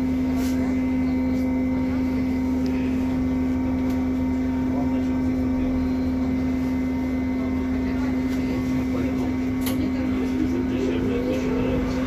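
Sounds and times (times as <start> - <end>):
steady electric hum: 0.0 - 12.0.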